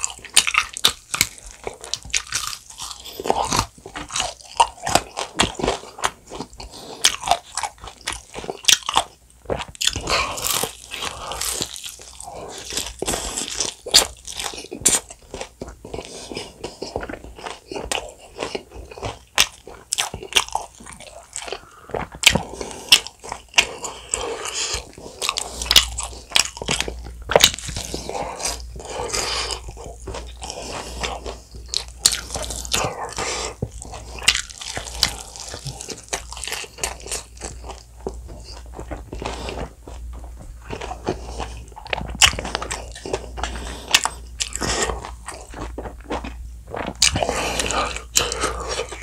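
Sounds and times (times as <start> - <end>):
chewing: 0.0 - 49.0
crunching fried chicken: 0.0 - 49.0.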